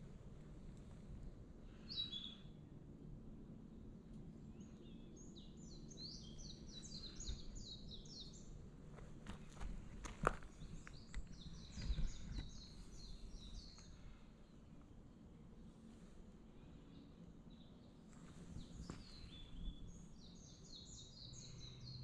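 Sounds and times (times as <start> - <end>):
songbird singing: 0.0 - 2.8, 3.6 - 15.4, 16.4 - 22.0
faint outdoor hum: 0.0 - 22.0.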